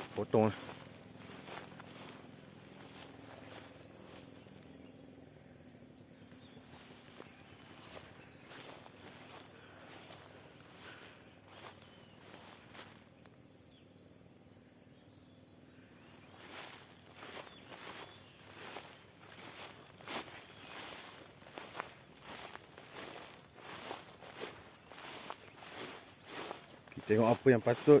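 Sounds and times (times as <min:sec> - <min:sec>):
footsteps through grass: 0:00.0 - 0:05.1, 0:06.1 - 0:13.3, 0:15.9 - 0:28.0
insects droning: 0:00.0 - 0:28.0.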